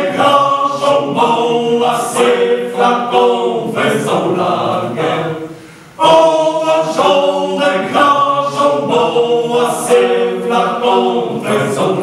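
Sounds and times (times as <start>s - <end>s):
choir singing a cappella: 0.0s - 12.0s.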